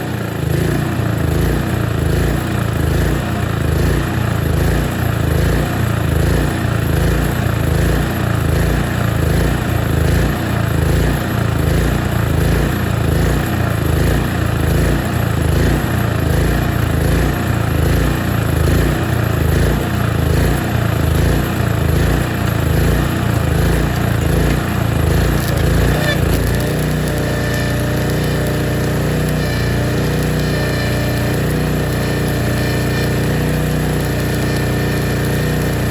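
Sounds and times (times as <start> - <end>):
generator engine running: 0.0 - 35.9.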